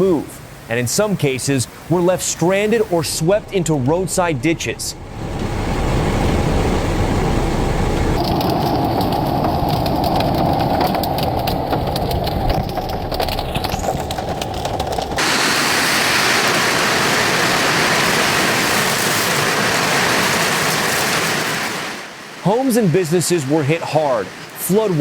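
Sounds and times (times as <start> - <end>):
heavy rain: 0.0 - 25.0
rushing floodwater: 0.0 - 25.0.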